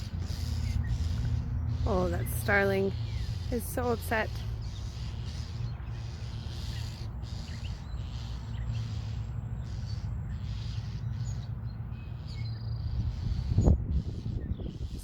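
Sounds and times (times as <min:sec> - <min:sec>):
songbirds alarm chirps: 0:00.0 - 0:15.0.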